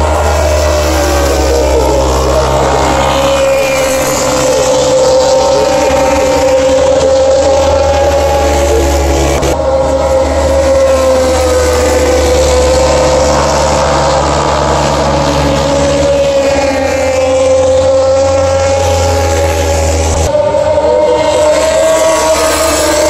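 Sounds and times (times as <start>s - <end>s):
racing motorcycle engines revving: 0.0s - 23.0s.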